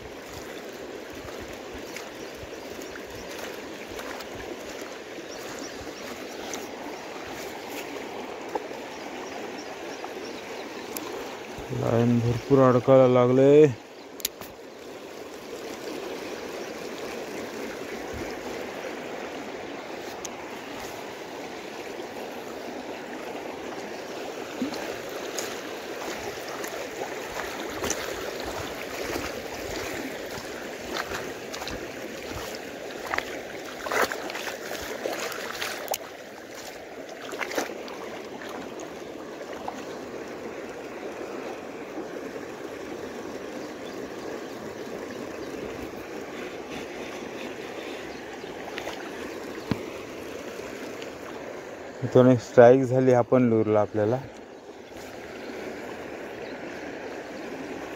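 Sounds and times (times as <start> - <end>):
creek water flowing over stones: 0.0 - 57.9.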